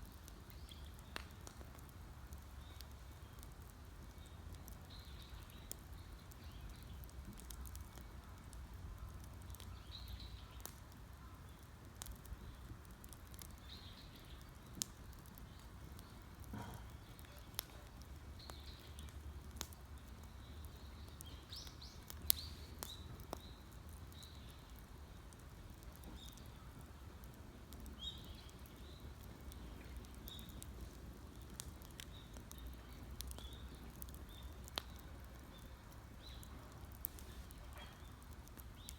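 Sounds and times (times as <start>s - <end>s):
campfire crackling: 0.0s - 38.9s
small birds chirping: 0.0s - 38.9s.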